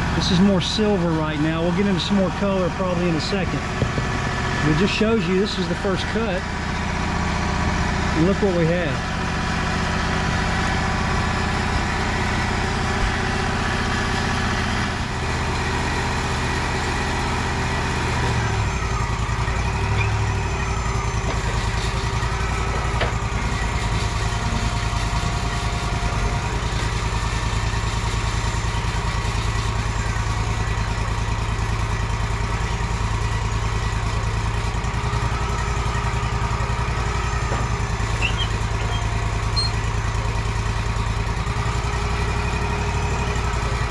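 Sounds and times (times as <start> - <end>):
sawmill engine running: 0.0 - 43.9.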